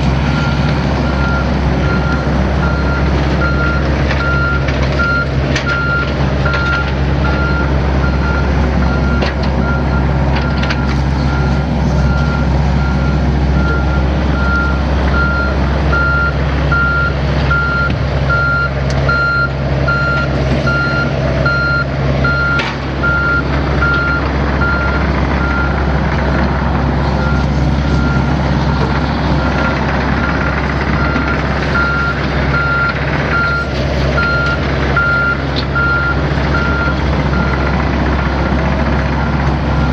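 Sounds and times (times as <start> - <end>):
diesel engines under load: 0.0 - 39.9
travel alarm beeping: 0.4 - 25.8, 31.0 - 37.7.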